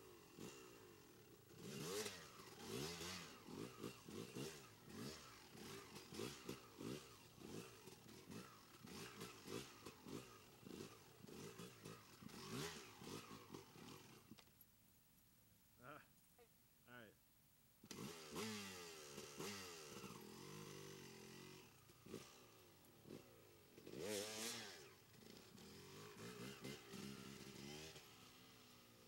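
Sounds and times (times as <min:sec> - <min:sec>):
dirt bike engine revving: 0:00.0 - 0:14.4, 0:17.8 - 0:29.0.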